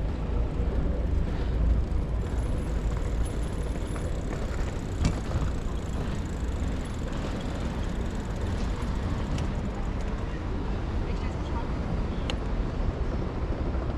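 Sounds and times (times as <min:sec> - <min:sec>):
street traffic rumble: 0:00.0 - 0:13.9.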